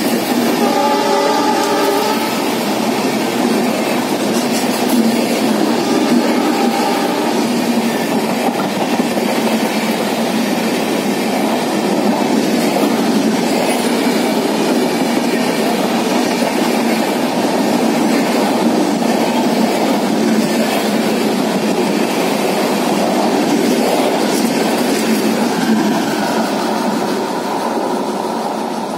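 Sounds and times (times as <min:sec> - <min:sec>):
train wheels rumbling on track: 0:00.0 - 0:28.9.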